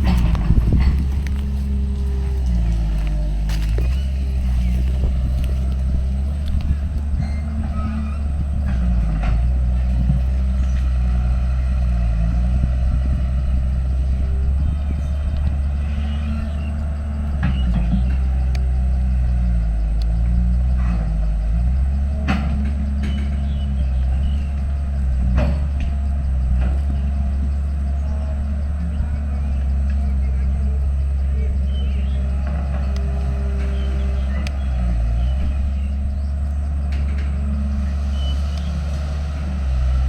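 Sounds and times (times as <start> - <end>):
heavy machinery diesel engine: 0.0 - 40.0.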